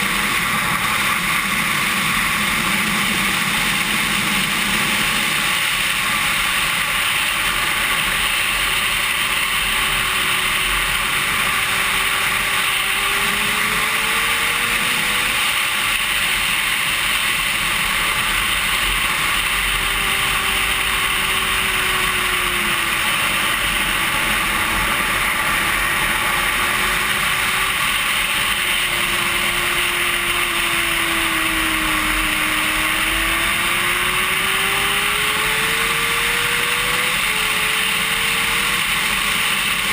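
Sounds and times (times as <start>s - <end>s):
motorbike engine at speed: 0.0s - 39.9s
rush of wind: 0.0s - 39.9s.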